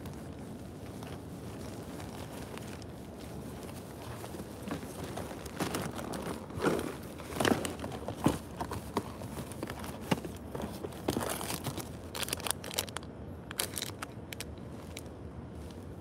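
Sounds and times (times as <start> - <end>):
plastic bags rustling: 0.0 - 15.1
cardboard and foil crackling: 1.0 - 14.5.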